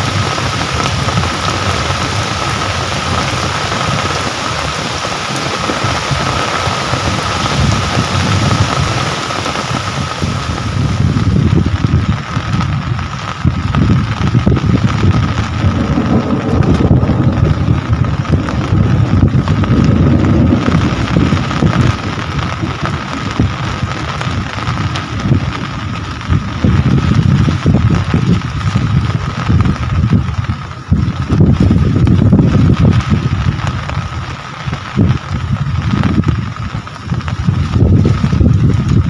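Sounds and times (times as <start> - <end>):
steady rain falling: 0.0 - 39.0
wind buffeting microphone: 0.0 - 39.0.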